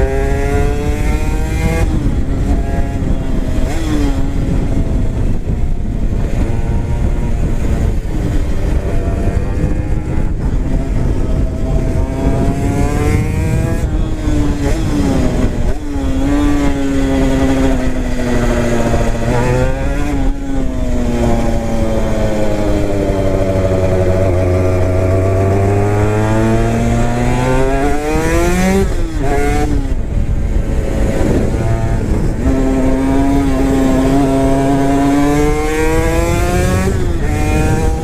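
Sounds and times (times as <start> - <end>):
two-stroke motorcycle engine: 0.0 - 38.0
wind rumble on microphone: 0.0 - 38.0.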